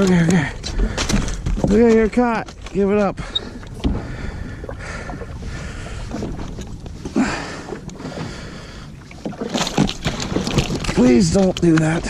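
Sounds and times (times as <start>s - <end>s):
seawater splashing and sloshing: 0.0s - 12.0s.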